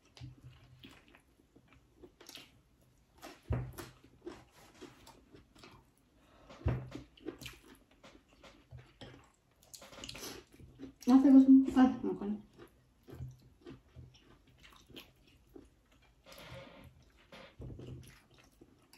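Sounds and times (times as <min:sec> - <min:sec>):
chewing and wet smacking: 0:00.0 - 0:11.3, 0:12.2 - 0:18.9.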